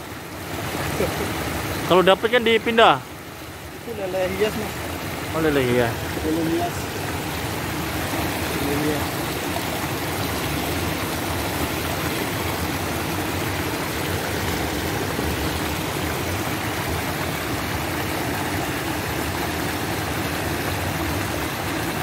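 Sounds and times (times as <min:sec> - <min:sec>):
water pouring into a pond: 0:00.0 - 0:22.0.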